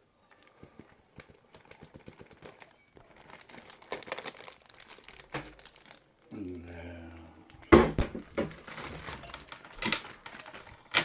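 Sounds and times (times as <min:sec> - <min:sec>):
plastic bag crinkling: 0:00.3 - 0:06.3, 0:08.0 - 0:11.0.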